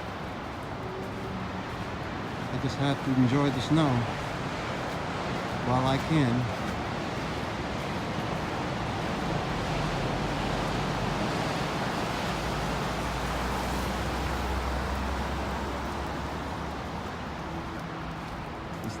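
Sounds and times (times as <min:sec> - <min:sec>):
rushing street noise: 0:00.0 - 0:19.0.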